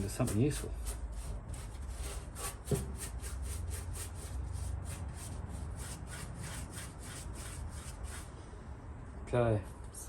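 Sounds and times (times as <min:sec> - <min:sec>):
scrubbing rust off metal: 0:00.0 - 0:08.4.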